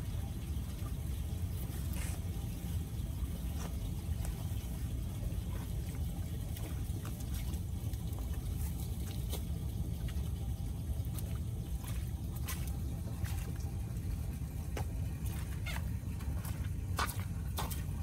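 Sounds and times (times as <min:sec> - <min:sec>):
small clicks and splashes: 0:00.0 - 0:18.0
steady low rumble: 0:00.0 - 0:18.0
water trickling into drain: 0:00.0 - 0:18.0.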